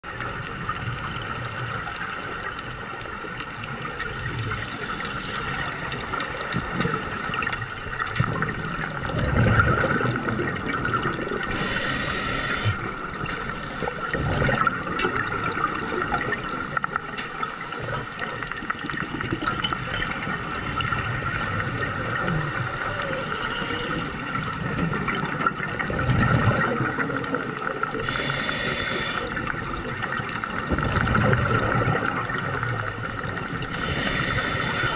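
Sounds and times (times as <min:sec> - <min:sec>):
underwater water noise: 0:00.0 - 0:34.9
scuba breathing: 0:01.6 - 0:07.0, 0:07.7 - 0:18.8, 0:21.1 - 0:24.9, 0:26.6 - 0:34.9.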